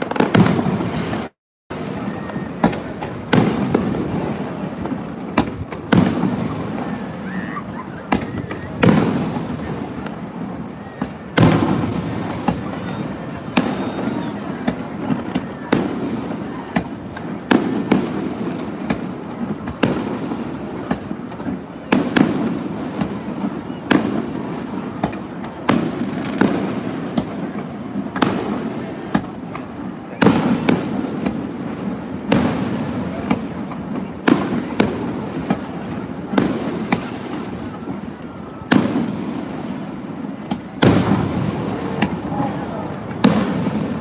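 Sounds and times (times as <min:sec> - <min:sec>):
firework booms: 0:00.0 - 0:44.0
firework pops and crackling: 0:00.0 - 0:44.0.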